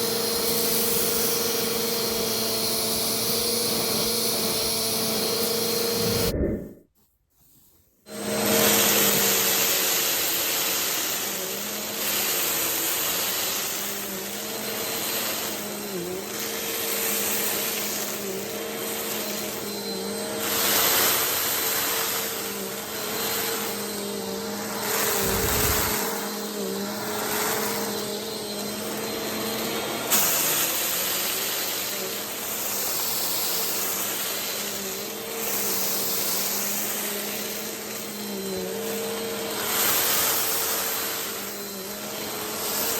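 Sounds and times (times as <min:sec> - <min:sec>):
vacuum cleaner running: 0:00.0 - 0:06.7, 0:08.1 - 0:42.9.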